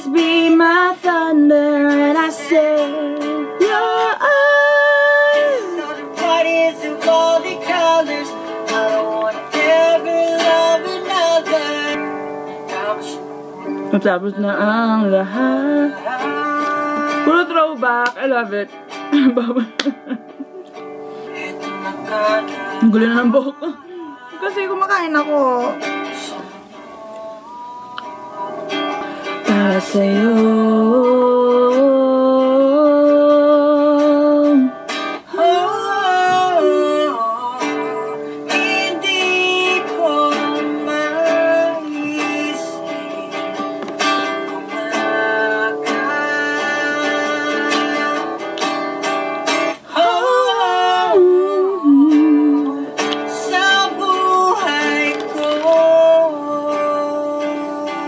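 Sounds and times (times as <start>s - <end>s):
acoustic guitar strummed and plucked: 0.0s - 58.0s
person singing: 0.0s - 58.0s.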